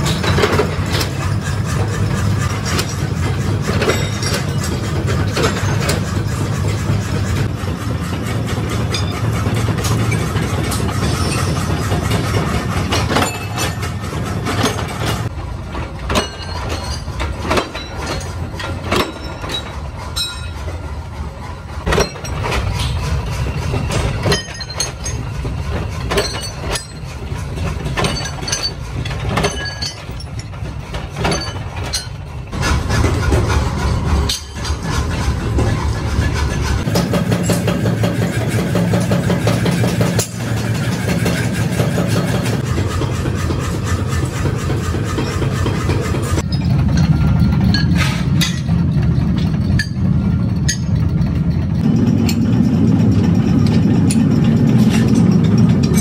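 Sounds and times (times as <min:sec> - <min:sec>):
sharp metal clanks: 0:00.0 - 0:07.5, 0:08.2 - 0:21.2, 0:21.8 - 0:56.0.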